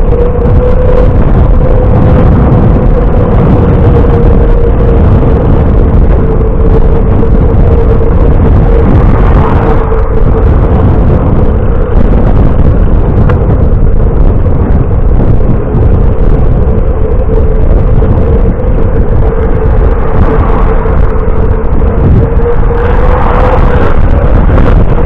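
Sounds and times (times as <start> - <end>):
bicycle road noise: 0.0 - 25.0
constant hum: 0.0 - 25.0
wind rumble: 0.0 - 25.0.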